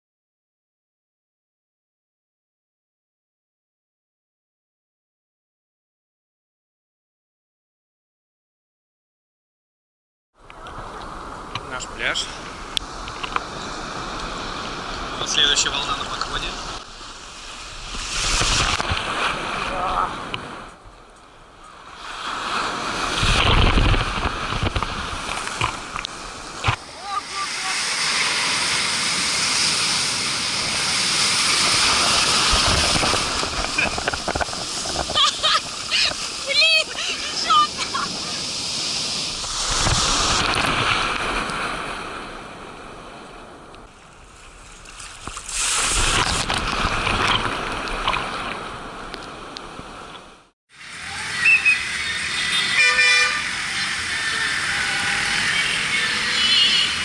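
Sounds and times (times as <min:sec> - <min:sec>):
ocean waves crashing: 0:10.6 - 0:57.0.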